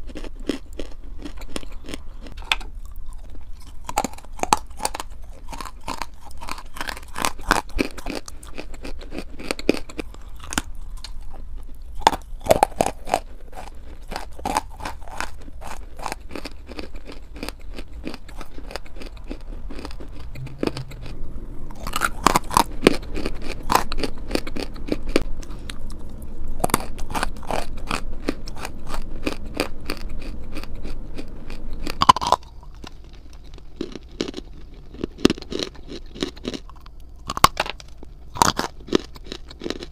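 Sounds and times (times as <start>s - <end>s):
crunching and chewing clay: 0.0s - 39.9s.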